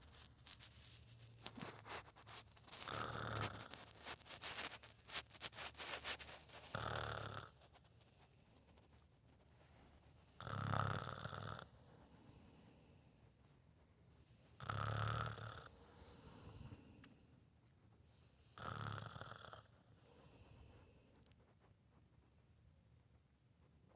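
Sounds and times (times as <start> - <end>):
faint breaths: 0.0 - 22.2.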